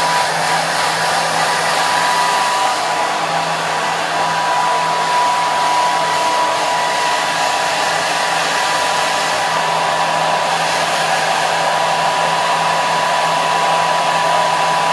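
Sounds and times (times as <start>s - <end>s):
hair dryer running: 0.0s - 14.9s.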